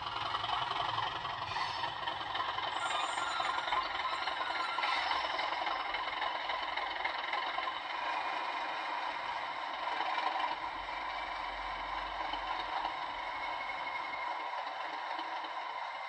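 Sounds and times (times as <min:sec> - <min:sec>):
diesel engine idle through small speaker: 0:00.0 - 0:16.0.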